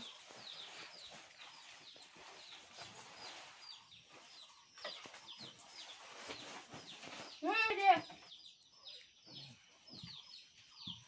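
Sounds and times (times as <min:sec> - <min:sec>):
chicken peeping: 0:00.0 - 0:11.0.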